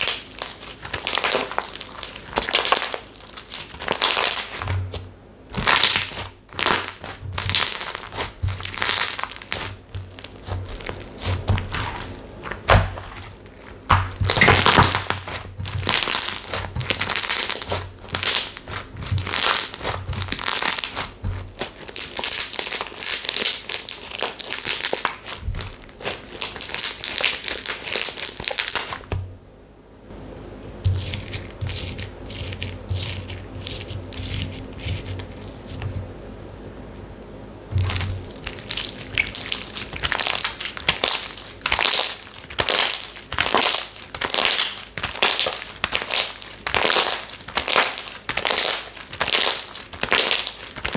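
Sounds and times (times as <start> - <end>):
slime crackling and popping: 0.0 - 29.2, 37.8 - 50.9.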